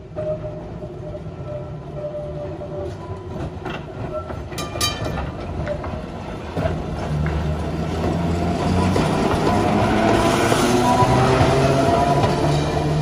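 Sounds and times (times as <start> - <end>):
tram wheels clicking on rails: 1.5 - 13.0.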